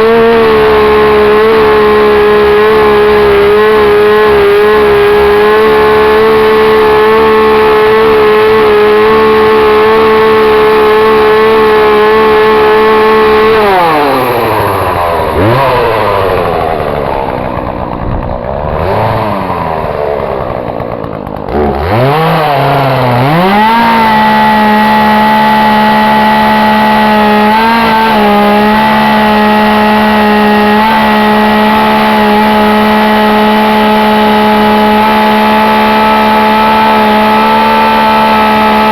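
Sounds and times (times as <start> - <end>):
two-stroke chainsaw running: 0.0 - 38.9.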